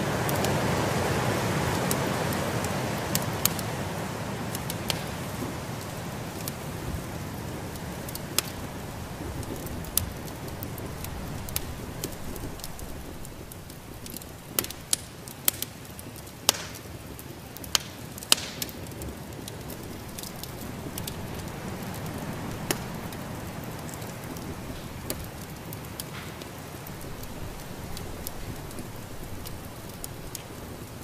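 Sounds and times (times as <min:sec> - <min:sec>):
steady rushing hiss: 0:00.0 - 0:31.0
wood fire crackling: 0:00.0 - 0:31.0
fire popping sharply: 0:04.5 - 0:31.0.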